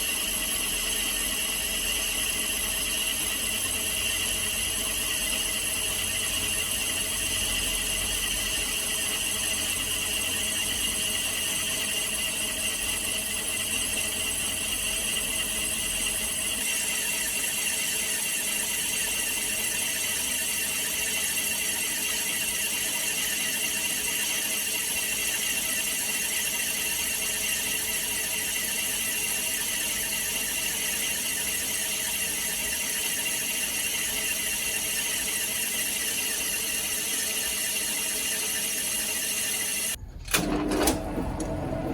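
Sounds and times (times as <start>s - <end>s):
metal lathe running: 0.0s - 41.9s.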